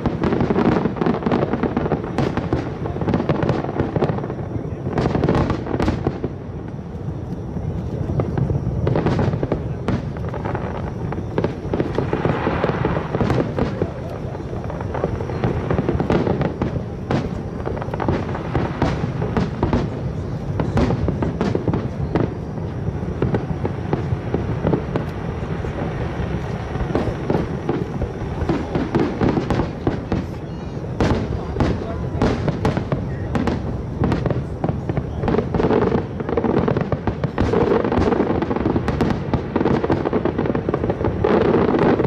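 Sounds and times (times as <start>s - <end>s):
fireworks booming and cracking: 0.0s - 42.0s.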